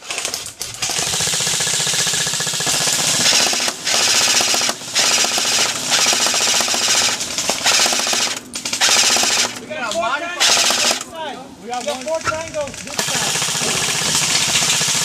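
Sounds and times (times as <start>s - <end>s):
airsoft gun firing full auto: 0.0s - 9.6s, 10.4s - 11.1s, 12.9s - 15.0s.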